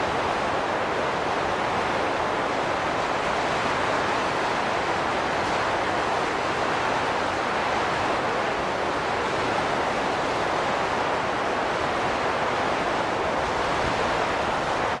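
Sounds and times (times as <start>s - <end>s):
wind blowing steadily: 0.0s - 15.0s.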